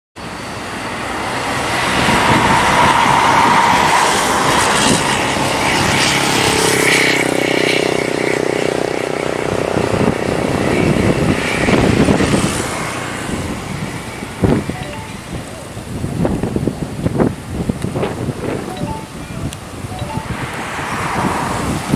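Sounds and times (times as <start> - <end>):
road traffic: 0.2 - 9.8, 10.6 - 21.9.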